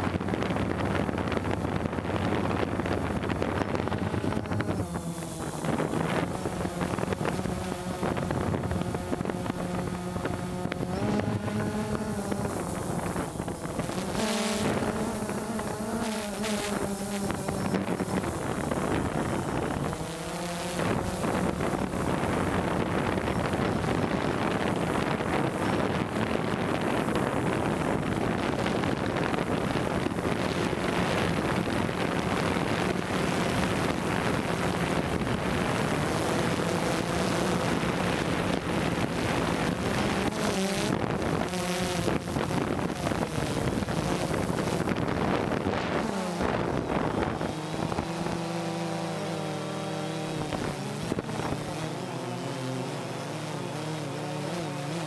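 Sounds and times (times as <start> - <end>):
drone propellers buzzing: 0.0 - 55.0
wind noise on microphone: 0.0 - 55.0.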